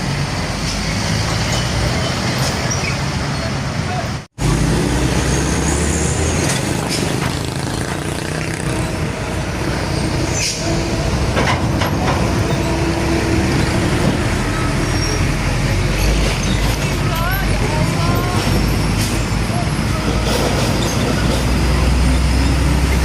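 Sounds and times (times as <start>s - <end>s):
diesel trucks passing: 0.0s - 23.0s.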